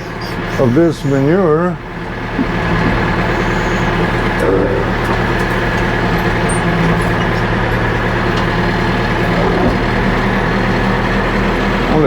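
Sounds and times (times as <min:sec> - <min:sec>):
tractor engine under load: 0:00.0 - 0:12.0.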